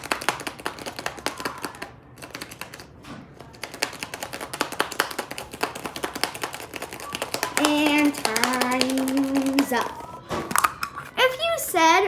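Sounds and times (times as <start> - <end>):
toy rattling inside plastic egg: 0.0 - 11.2.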